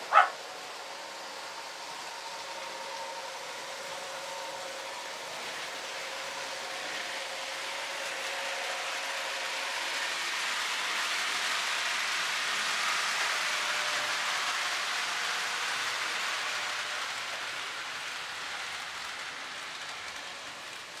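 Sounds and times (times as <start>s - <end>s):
toy trains rattling on track: 0.0s - 21.0s.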